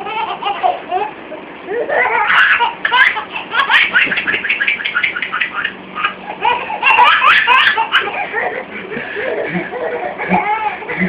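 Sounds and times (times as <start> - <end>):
person laughing in high bursts: 0.0 - 11.0.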